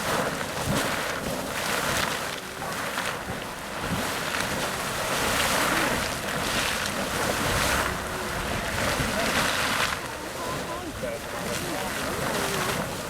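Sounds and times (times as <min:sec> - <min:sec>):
geyser splashing water: 0:00.0 - 0:13.0.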